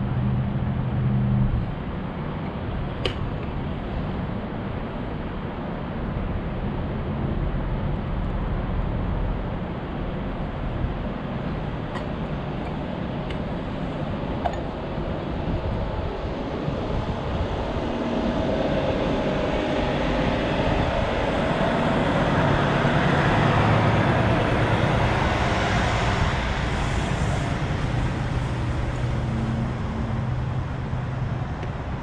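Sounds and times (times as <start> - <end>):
faint engine hum: 0.0 - 32.0
traffic rumble: 0.0 - 32.0.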